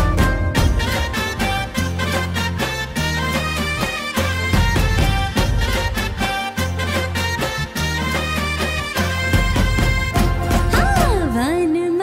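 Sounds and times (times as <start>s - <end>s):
instrumental dance music: 0.0s - 11.5s.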